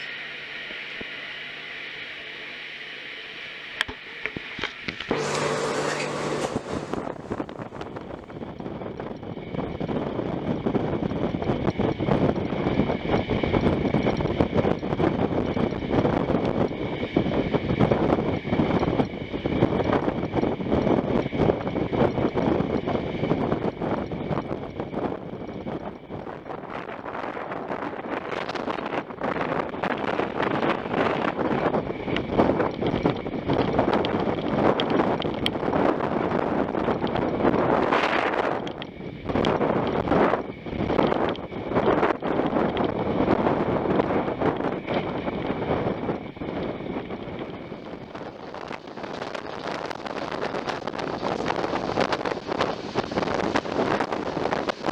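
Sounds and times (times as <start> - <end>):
train running noise: 0.0 - 54.9
wind on microphone: 3.8 - 54.9.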